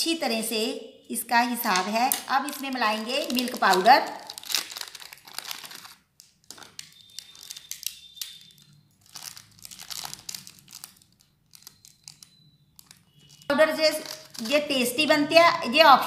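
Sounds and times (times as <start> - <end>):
plastic sachet crinkling: 1.8 - 15.0.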